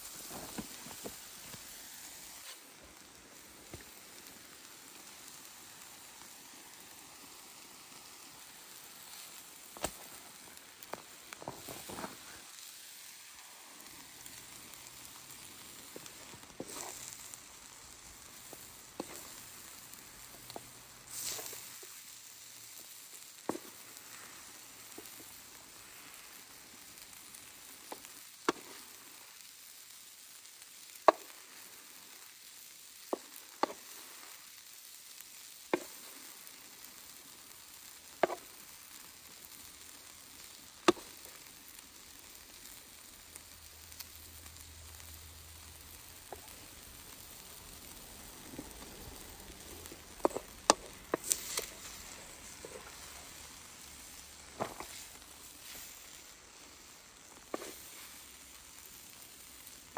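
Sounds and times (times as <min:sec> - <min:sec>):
meat sizzling in a pan: 0:00.0 - 0:59.9.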